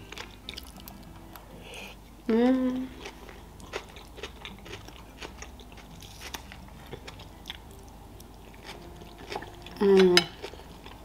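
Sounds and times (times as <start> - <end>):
chewing food: 0.0 - 1.5, 2.9 - 11.0.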